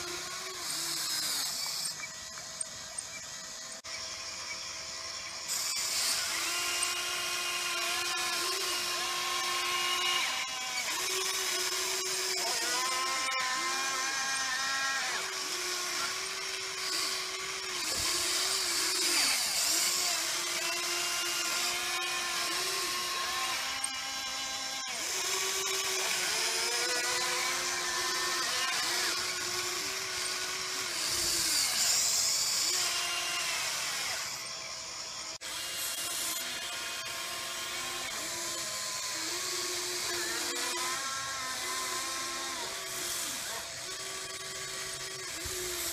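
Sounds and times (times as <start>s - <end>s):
electric motors whining: 0.0s - 45.9s.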